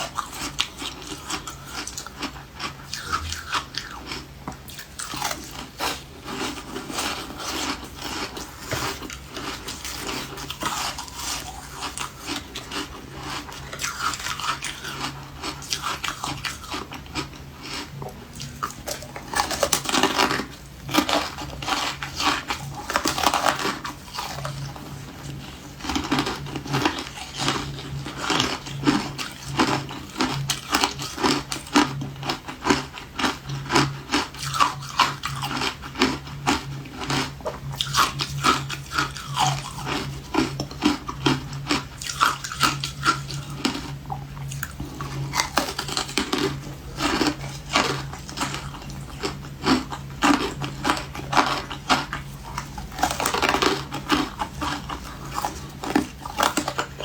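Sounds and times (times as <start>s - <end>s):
ice crunching while chewed: 0.0s - 57.0s.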